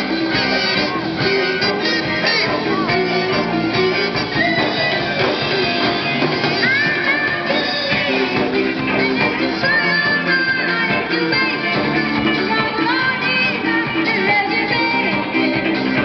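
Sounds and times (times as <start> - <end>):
electric guitar: 0.0 - 16.0
live band playing pop song: 0.0 - 16.0.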